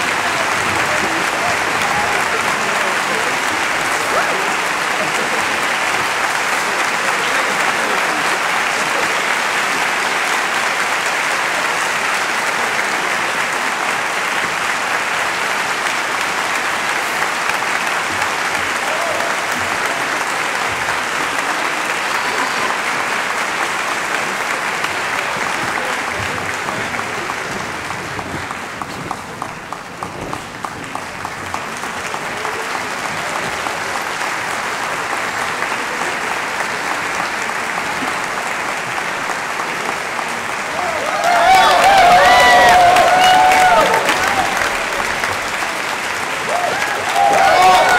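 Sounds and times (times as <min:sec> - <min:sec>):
audience applauding: 0:00.0 - 0:47.9.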